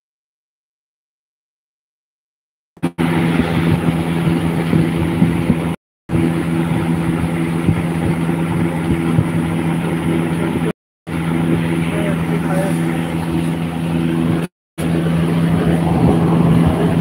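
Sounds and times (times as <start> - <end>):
electric fan heater humming: 2.8 - 17.0.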